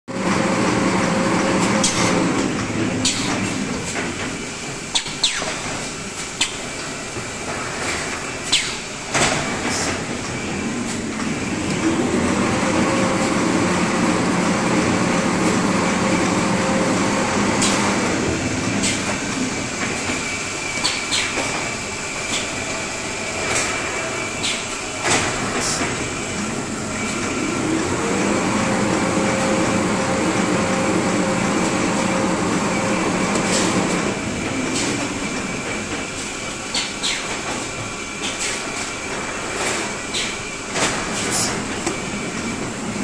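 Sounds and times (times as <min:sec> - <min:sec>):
machine hum of rollers and motors: 0:00.1 - 0:43.0.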